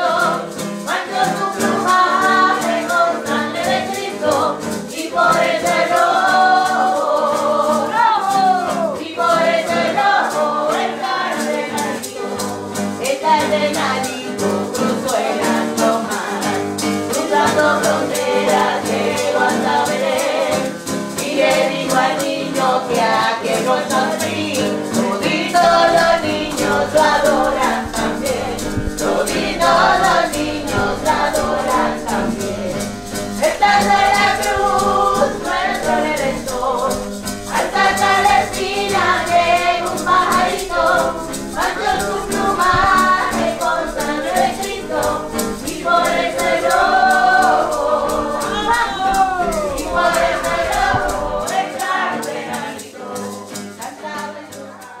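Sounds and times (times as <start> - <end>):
shaker rhythm: 0.0 - 55.0
voices singing together: 0.0 - 55.0.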